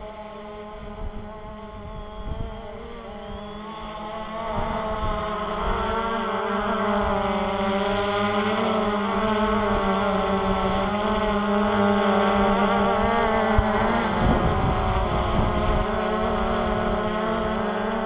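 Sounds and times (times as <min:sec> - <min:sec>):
drone buzzing hum: 0:00.0 - 0:18.0.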